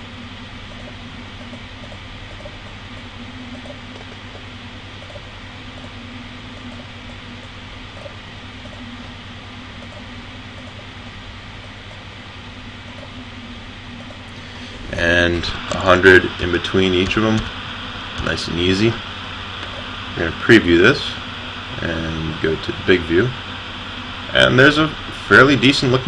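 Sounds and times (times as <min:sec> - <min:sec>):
background hiss with low hum: 0:00.0 - 0:26.0
fan running: 0:00.0 - 0:26.0.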